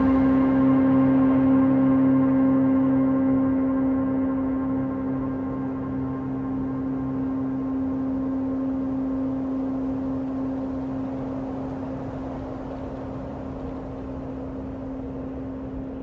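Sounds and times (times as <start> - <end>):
low drone tone: 0.0 - 16.0.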